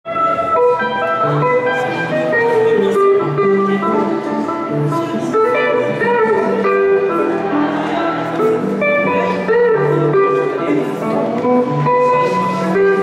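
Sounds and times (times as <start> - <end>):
busker playing guitar: 0.0 - 13.0.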